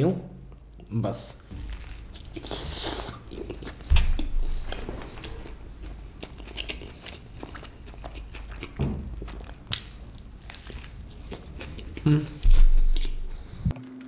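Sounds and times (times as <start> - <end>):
chewing with wet smacks: 1.5 - 13.8.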